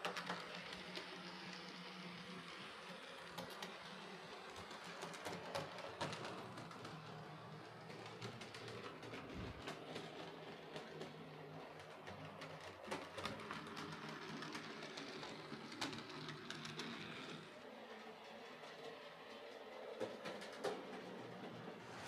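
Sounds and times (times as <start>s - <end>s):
model train motor hum: 0.0s - 22.0s
wheels clicking on track: 0.0s - 22.0s.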